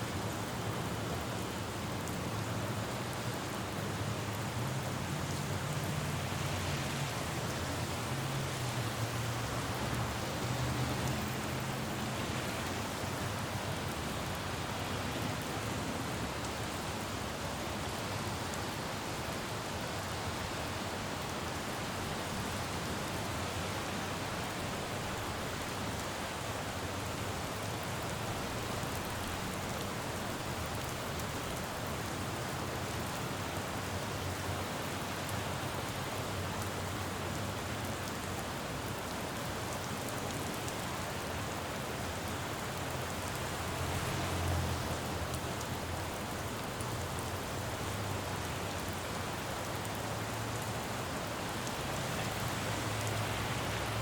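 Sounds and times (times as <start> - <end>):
rain falling on road: 0.0 - 54.0
traffic rumble: 3.7 - 33.1, 33.9 - 54.0.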